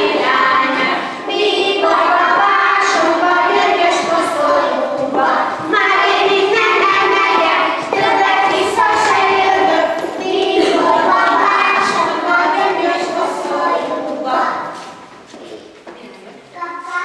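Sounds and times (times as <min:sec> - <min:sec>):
young children singing: 0:00.0 - 0:15.2.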